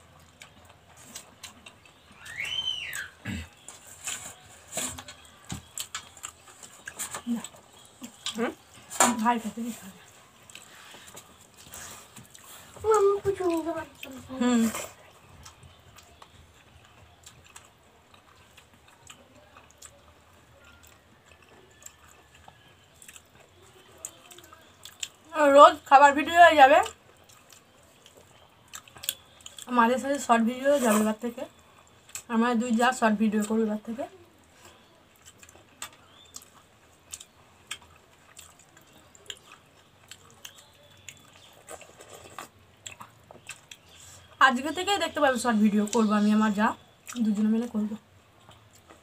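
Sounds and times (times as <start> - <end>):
soft chewing: 0.0 - 49.0.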